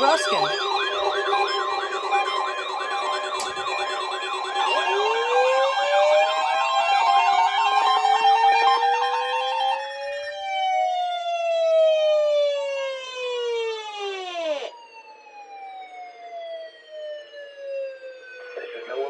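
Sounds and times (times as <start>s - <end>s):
electronic siren-like tones: 0.0s - 19.0s.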